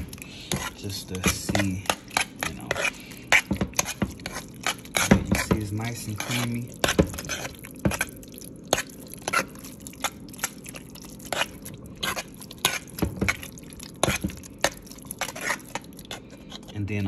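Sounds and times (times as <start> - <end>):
wet squelching of cheese sauce: 0.0 - 17.0.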